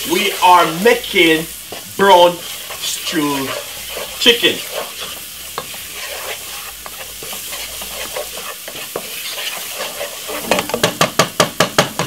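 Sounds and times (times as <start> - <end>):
wooden spoon stirring and scraping: 0.0 - 11.4
onion sizzling in oil: 0.0 - 12.0.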